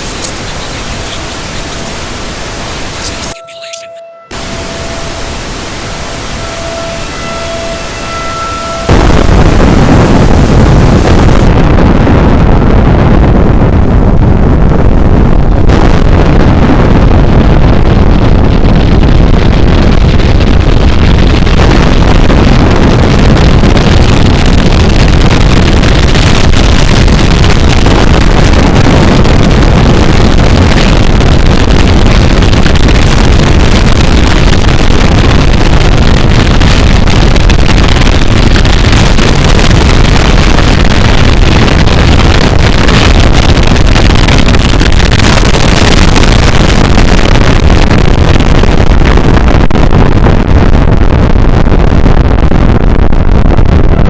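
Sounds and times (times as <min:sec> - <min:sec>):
distorted rumbling roar: 0:00.0 - 0:03.4, 0:04.3 - 0:54.0.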